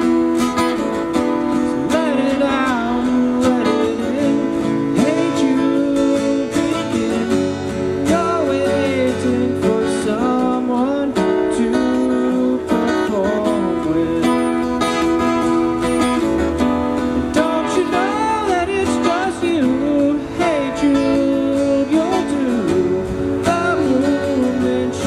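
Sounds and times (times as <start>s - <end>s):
acoustic guitars strummed: 0.0s - 25.0s
man singing: 1.5s - 15.0s, 17.3s - 25.0s.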